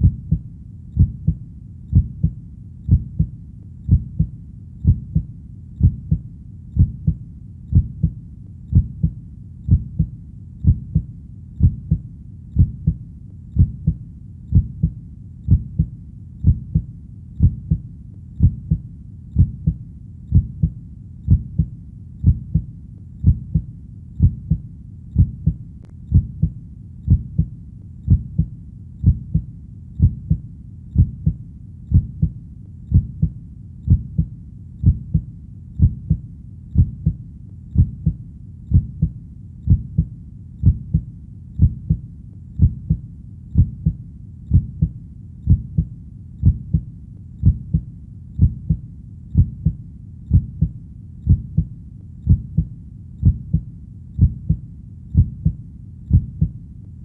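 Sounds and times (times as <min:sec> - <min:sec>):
heartbeat double thump: 0:00.0 - 0:00.4, 0:01.0 - 0:03.3, 0:03.9 - 0:06.2, 0:06.8 - 0:12.0, 0:12.6 - 0:13.0, 0:13.6 - 0:17.8, 0:18.4 - 0:18.8, 0:19.4 - 0:24.6, 0:25.2 - 0:27.5, 0:28.1 - 0:30.4, 0:31.0 - 0:36.2, 0:37.8 - 0:42.0, 0:42.6 - 0:43.0, 0:43.6 - 0:48.8, 0:49.4 - 0:51.7, 0:52.3 - 0:54.6, 0:55.2 - 0:56.6.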